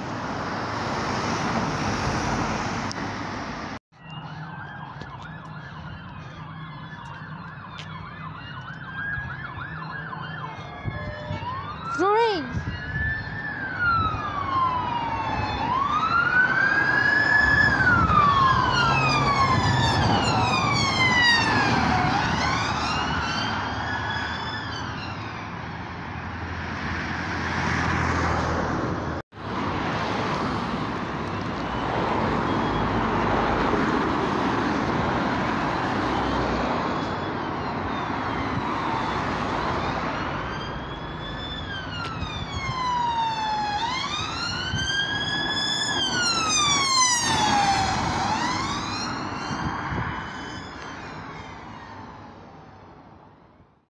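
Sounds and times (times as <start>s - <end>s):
emergency sirens wailing: 0.0s - 53.6s
traffic noise: 0.0s - 53.9s.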